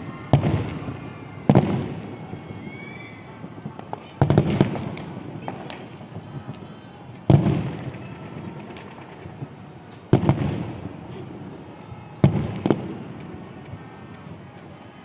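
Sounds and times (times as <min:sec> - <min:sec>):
small firework bang: 0:00.0 - 0:14.4
firework shells booming: 0:00.0 - 0:14.6.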